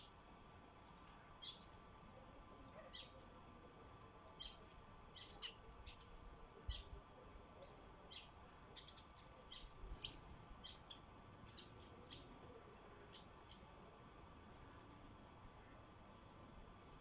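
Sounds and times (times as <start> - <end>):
sparrows chirping: 0.8 - 3.3, 4.1 - 16.8.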